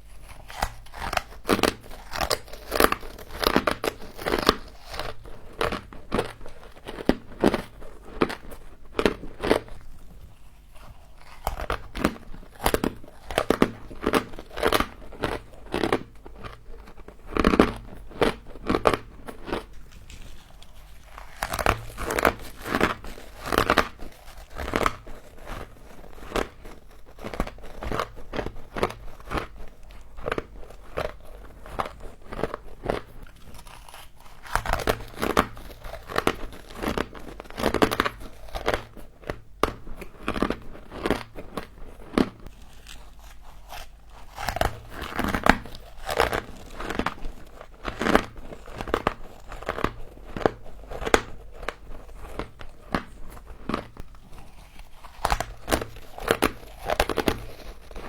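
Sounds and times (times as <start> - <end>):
frost being chewed: 0.0 - 58.0.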